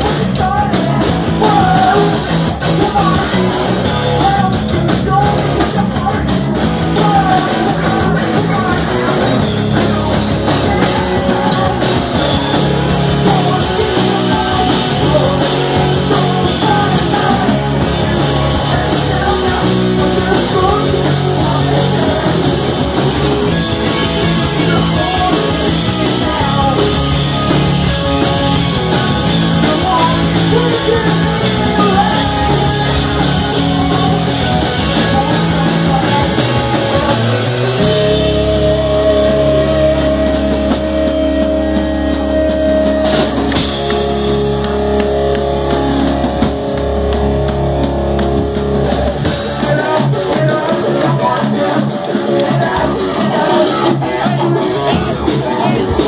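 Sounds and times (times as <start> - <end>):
person singing: 0.0 - 46.8, 49.0 - 56.0
bass guitar: 0.0 - 56.0
drums: 0.0 - 56.0
electric guitar: 0.0 - 56.0.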